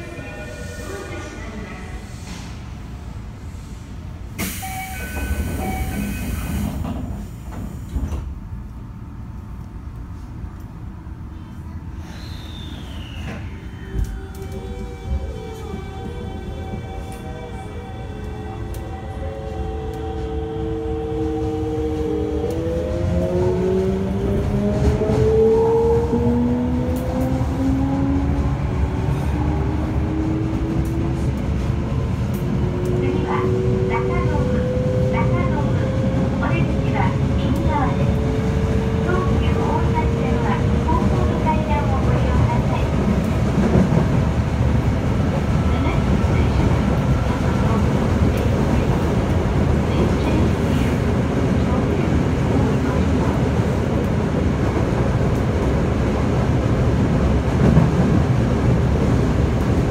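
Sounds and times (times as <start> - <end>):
subway train running rumble: 0.0 - 59.9.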